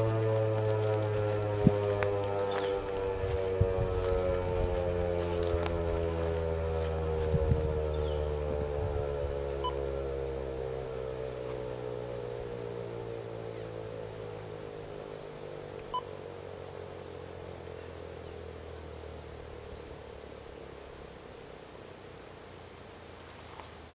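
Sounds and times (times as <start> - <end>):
warning siren winding down: 0.0 - 22.2
faint steady hum: 0.0 - 24.0.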